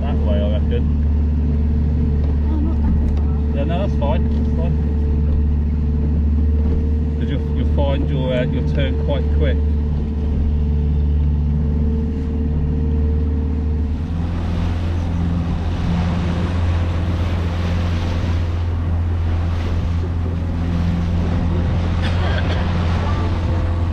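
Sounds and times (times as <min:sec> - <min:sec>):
motorboat engine running: 0:00.0 - 0:23.9
water and wind rushing: 0:00.0 - 0:23.9.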